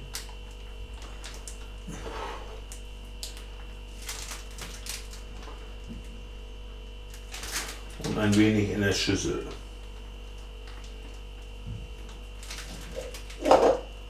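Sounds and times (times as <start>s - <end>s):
plastic piping bag rustling: 0.0s - 6.4s, 7.1s - 8.6s, 9.6s - 14.0s
electrical hum: 0.0s - 14.0s.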